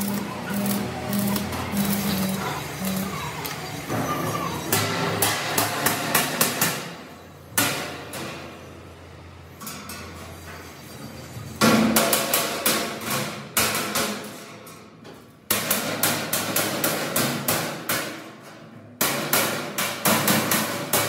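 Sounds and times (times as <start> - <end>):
hammer striking steel panels: 0.0 - 8.6, 11.6 - 21.0.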